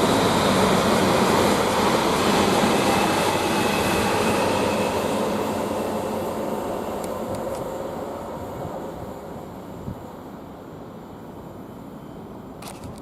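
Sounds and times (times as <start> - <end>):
electric train departing: 0.0 - 13.0.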